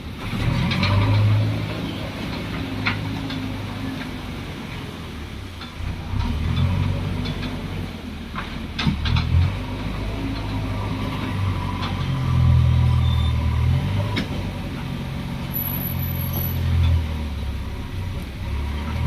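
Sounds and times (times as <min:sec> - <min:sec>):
diesel engines revving: 0:00.0 - 0:19.0.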